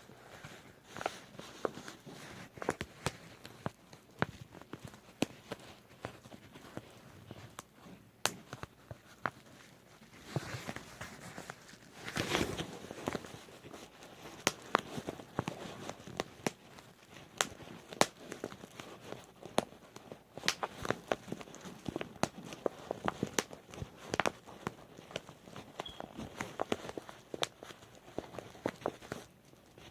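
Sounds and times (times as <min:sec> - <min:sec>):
bubble wrap popping: 0:00.0 - 0:29.9
plastic crinkling: 0:00.0 - 0:29.9.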